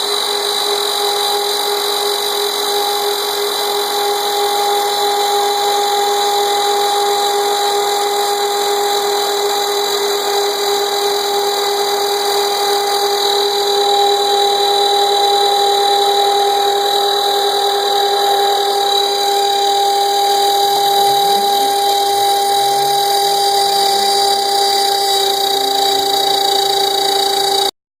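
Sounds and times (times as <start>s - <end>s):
router spindle whining: 0.0s - 27.8s
vacuum running: 0.0s - 27.8s.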